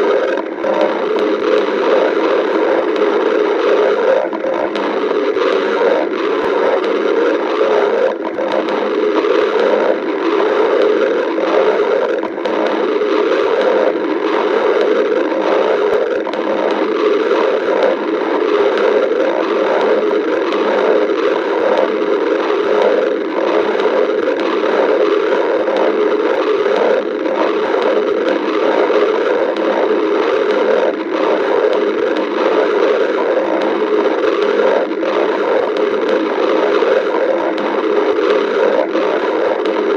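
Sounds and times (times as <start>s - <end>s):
stomach growling: 0.0s - 39.9s.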